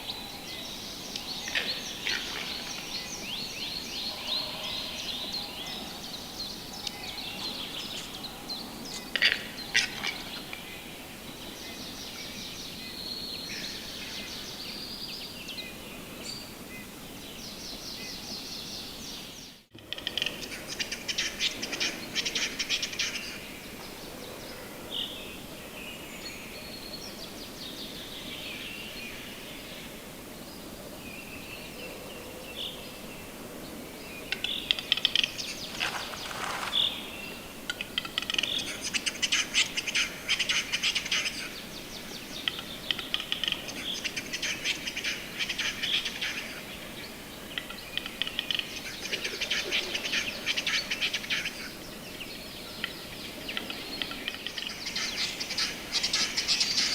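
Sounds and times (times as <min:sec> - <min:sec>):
birds chirping and trilling: 0:00.0 - 0:29.8, 0:33.7 - 0:56.9.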